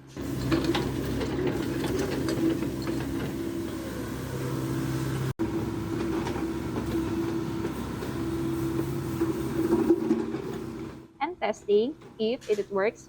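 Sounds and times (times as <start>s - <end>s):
excavator diesel engine running: 0.0s - 11.1s.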